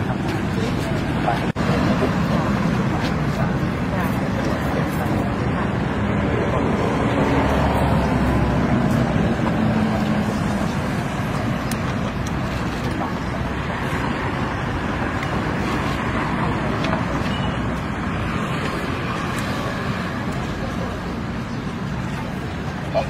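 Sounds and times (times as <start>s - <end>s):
road traffic noise: 0.0s - 23.0s
vehicle engine running nearby: 0.0s - 23.0s.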